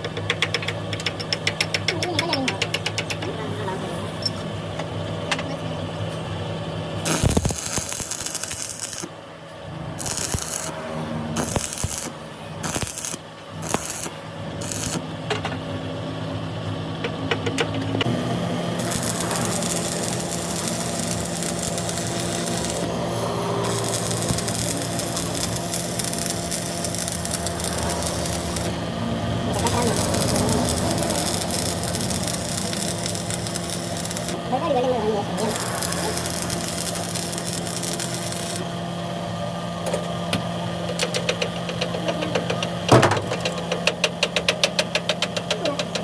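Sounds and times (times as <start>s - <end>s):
engine running: 0.0s - 46.0s.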